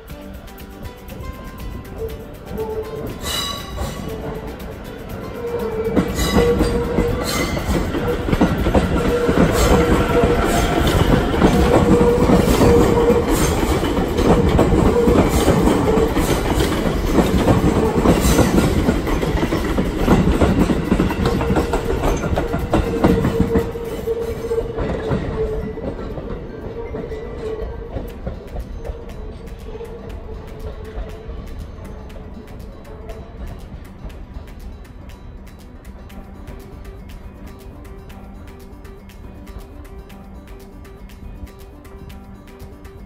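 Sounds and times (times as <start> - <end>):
train rumbling past: 0.0 - 43.0
wheels clacking over rail joints: 0.0 - 43.0.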